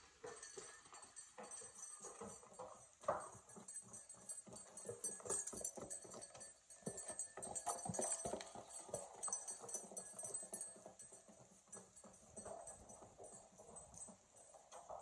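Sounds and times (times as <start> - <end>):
hooves on concrete floor: 0.0 - 15.0.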